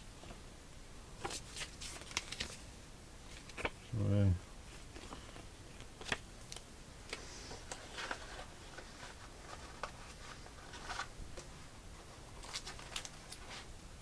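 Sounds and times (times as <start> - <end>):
paper rustling: 1.2 - 3.8, 4.7 - 13.7.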